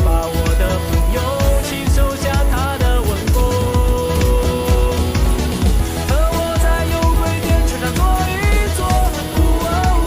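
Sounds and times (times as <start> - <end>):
pop music with vocal: 0.0 - 10.0.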